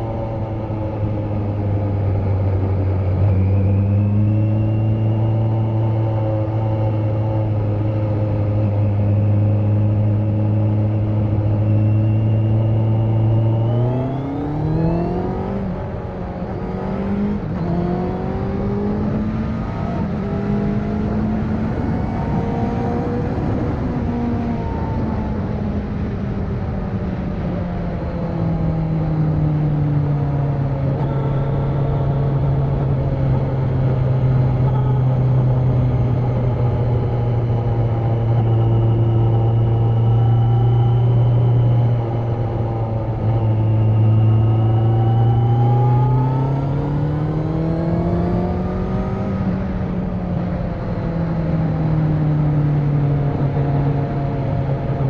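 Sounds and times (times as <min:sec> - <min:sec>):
motorcycle engine revving: 0:00.0 - 0:25.4, 0:28.6 - 0:55.0.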